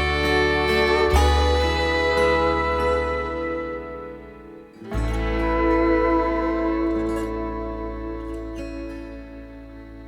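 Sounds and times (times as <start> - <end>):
slow instrumental country music: 0.0 - 10.0.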